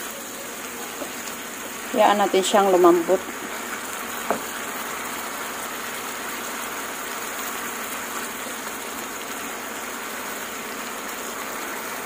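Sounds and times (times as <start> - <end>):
meat sizzling and bubbling in pan: 0.0 - 12.0.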